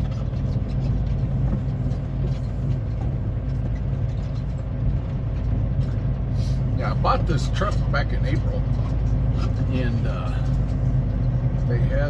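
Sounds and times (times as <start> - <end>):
road noise: 0.0 - 12.0
truck diesel engine droning: 0.0 - 12.0.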